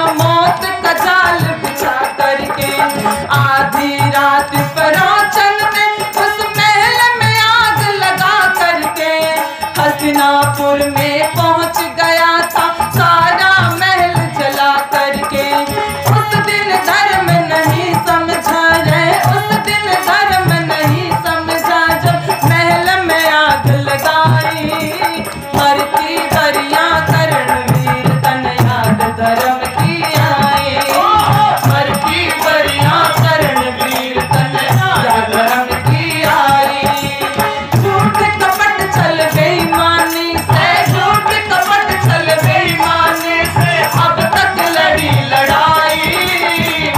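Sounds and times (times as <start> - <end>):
harmonium: 0.0 - 46.9
woman singing: 0.0 - 46.9.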